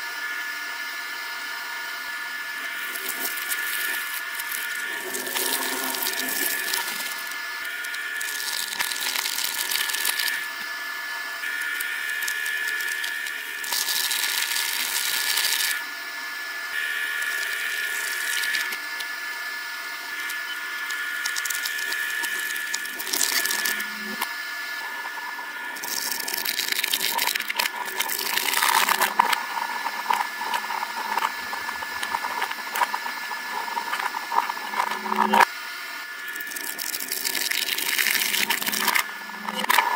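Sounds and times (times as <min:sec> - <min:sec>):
shredder grinding: 0:00.0 - 0:39.9
shredder motor whine: 0:00.0 - 0:39.9.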